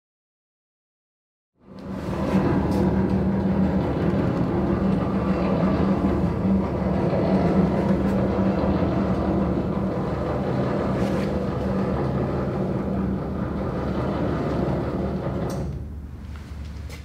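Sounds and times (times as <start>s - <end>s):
motor drone: 1.9s - 15.8s.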